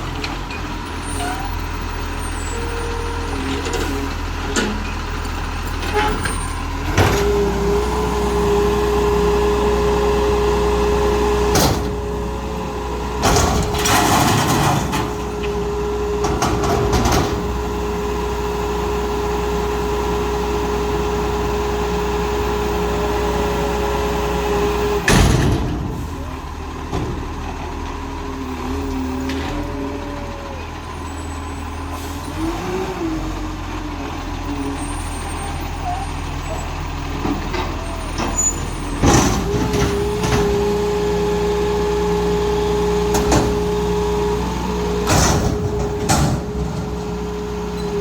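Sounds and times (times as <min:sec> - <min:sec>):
garbage truck whine: 0:00.0 - 0:48.0
truck clunks: 0:00.0 - 0:48.0.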